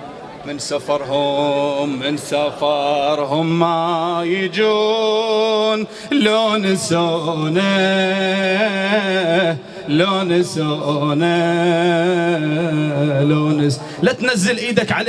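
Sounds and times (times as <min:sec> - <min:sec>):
man chanting: 0:00.5 - 0:15.0.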